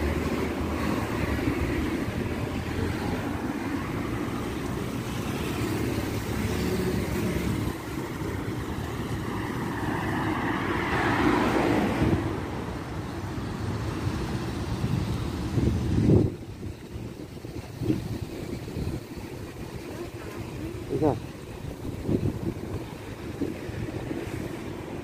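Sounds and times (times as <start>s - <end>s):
cars passing: 0.0s - 25.0s
motorcycles passing: 0.0s - 25.0s.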